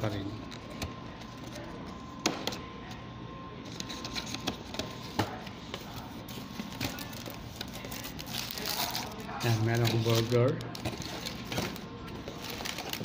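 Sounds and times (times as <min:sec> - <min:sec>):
indoor room noise: 0:00.0 - 0:13.0.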